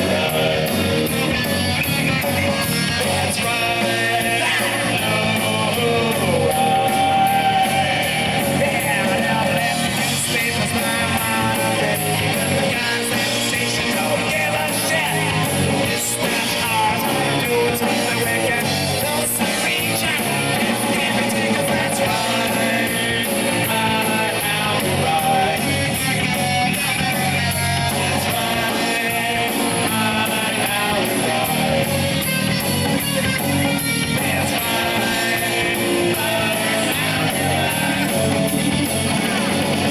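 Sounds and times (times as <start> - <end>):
bass guitar: 0.0 - 39.9
distorted electric guitar: 0.0 - 39.9
drums: 0.0 - 39.9.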